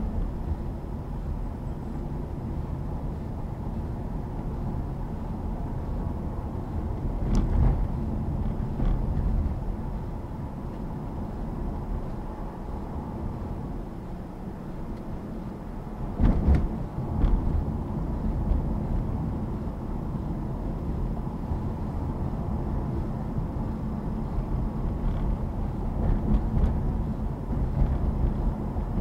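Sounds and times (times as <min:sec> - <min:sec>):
car rumbling on road: 0:00.0 - 0:29.0.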